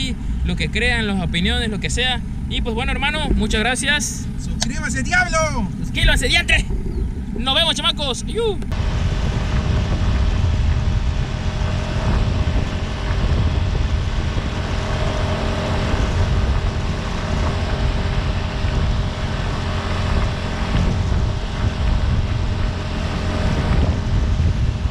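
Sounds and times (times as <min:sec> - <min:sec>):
outboard motor running: 0:00.0 - 0:24.9
wind rumbling on microphone: 0:00.0 - 0:24.9.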